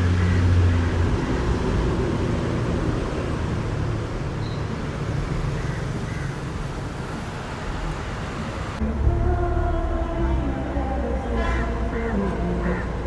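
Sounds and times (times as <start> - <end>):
traffic rumble: 0.0 - 13.0
vehicle engine: 0.0 - 13.0.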